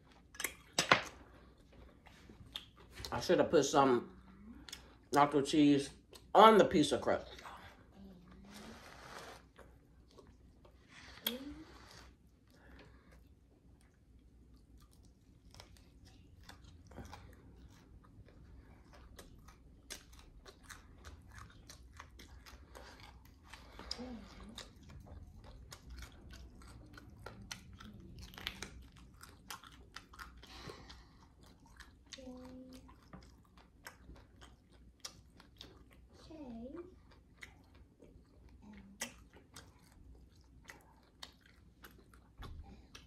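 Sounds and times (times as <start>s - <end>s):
person chewing pizza: 0.0s - 43.0s.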